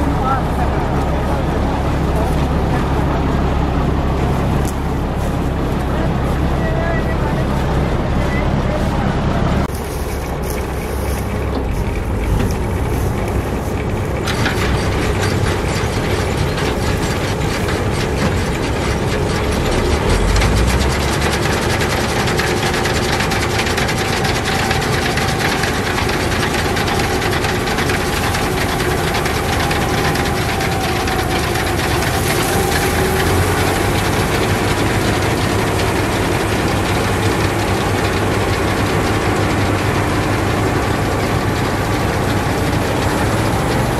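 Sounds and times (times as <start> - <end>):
combine harvester engine and machinery: 0.0 - 43.9.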